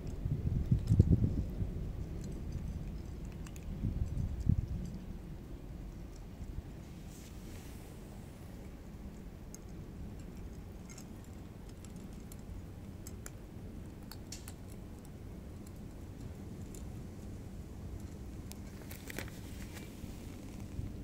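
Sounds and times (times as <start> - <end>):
cats crunching dry kibble: 0.0 - 21.0
low background rumble: 0.0 - 21.0.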